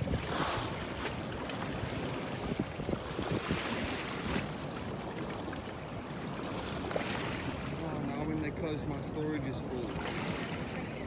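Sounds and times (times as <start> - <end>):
sea water washing against boat: 0.0 - 11.0
wind buffeting microphone: 0.0 - 11.0.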